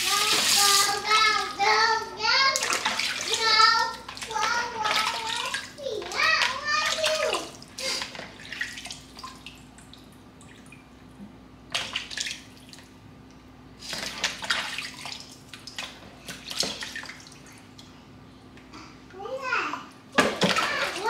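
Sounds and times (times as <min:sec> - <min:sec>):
water splashing in sink: 0:00.0 - 0:11.0, 0:11.7 - 0:12.9, 0:13.8 - 0:17.9, 0:20.1 - 0:21.0
faint steady hum: 0:00.0 - 0:21.0.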